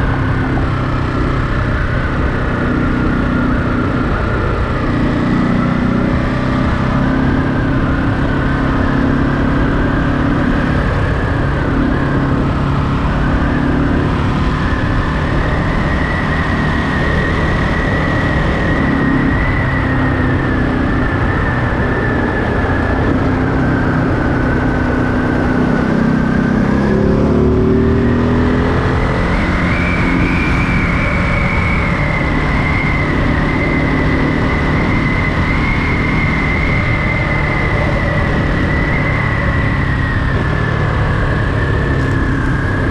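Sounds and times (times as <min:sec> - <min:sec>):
wind and road noise: 0:00.0 - 0:42.9.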